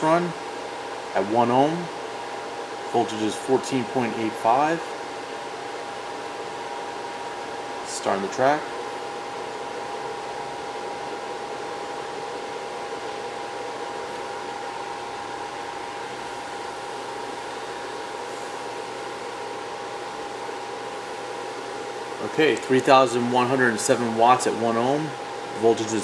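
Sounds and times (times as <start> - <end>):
constant high whine: 0.0 - 26.0
fan whir: 0.0 - 26.0.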